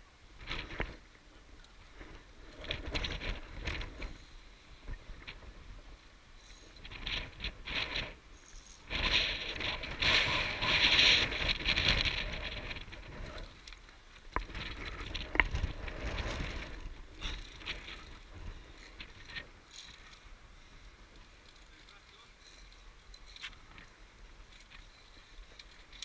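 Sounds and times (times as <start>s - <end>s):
hands scraping against rock and cable: 1.6s - 5.6s, 6.4s - 26.0s.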